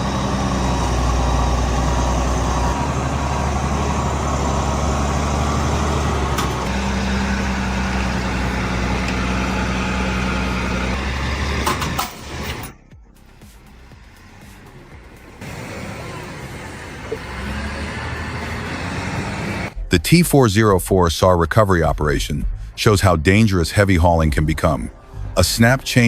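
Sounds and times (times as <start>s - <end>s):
heavy engine running: 0.0s - 21.2s, 24.3s - 26.0s.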